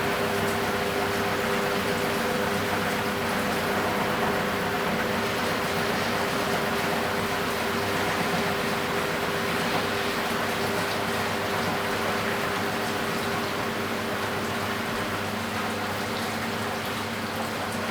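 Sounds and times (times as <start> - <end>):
washing machine running: 0.0 - 17.9.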